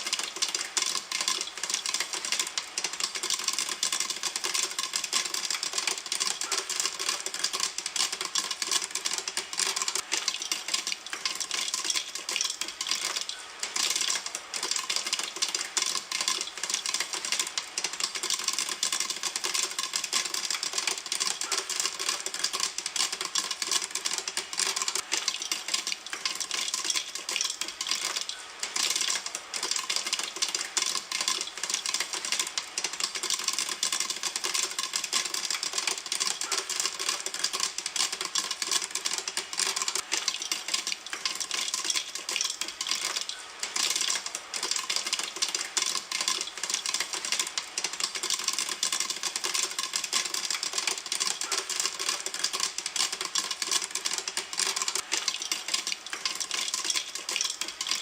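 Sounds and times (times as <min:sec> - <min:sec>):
popcorn popping in a pan: 0:00.0 - 0:58.0.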